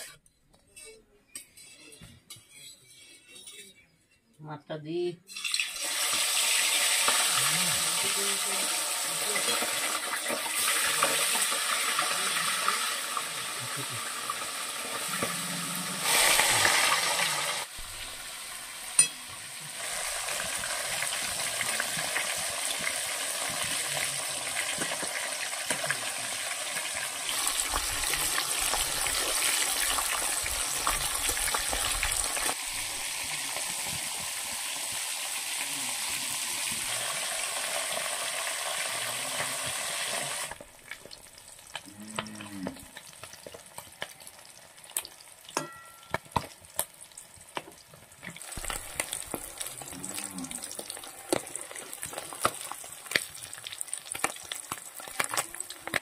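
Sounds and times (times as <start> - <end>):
food sizzling in hot oil: 5.3 - 56.0.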